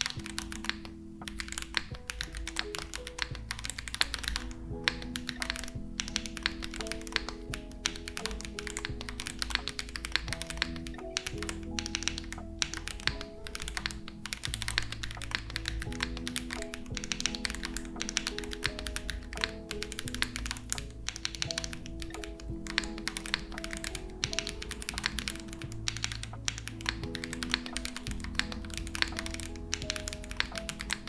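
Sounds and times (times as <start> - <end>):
background music: 0.0 - 31.0
mechanical keyboard typing: 0.0 - 31.0.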